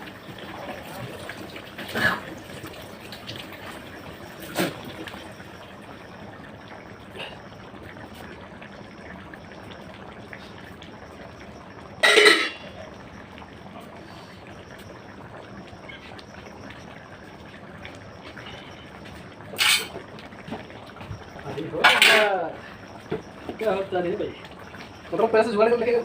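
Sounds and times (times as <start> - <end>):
liquid trickling and bubbling: 0.0 - 26.0.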